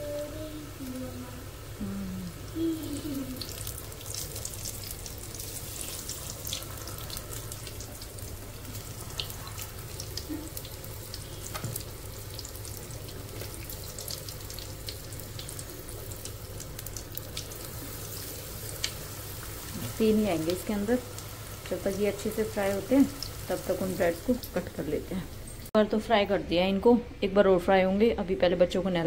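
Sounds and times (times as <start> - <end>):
deep-frying sizzle with crackles: 0.0 - 25.8
steady low hum: 0.0 - 29.0.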